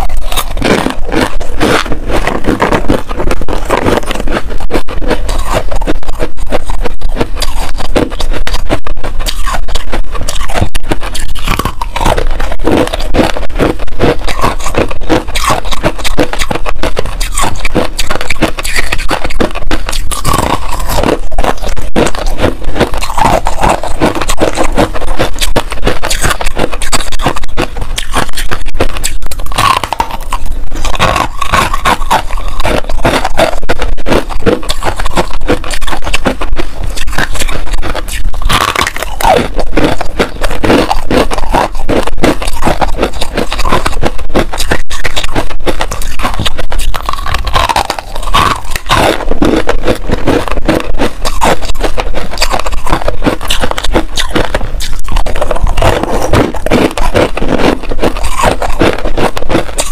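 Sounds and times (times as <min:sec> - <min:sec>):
ice crunching being chewed: 0:00.0 - 0:59.9.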